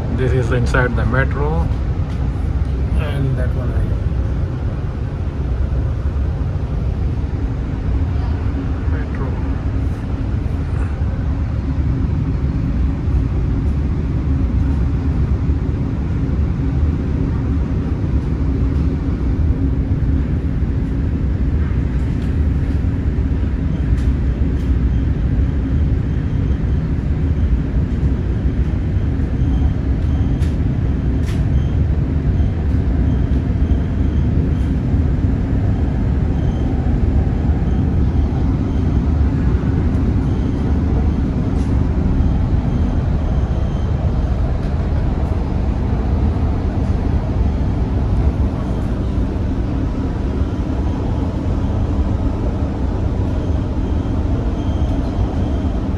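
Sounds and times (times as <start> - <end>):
train rumbling: 0.0 - 55.9.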